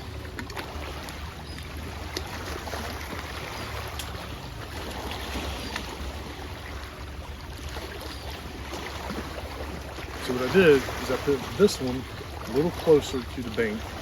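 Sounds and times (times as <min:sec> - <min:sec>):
water noise: 0:00.0 - 0:14.0.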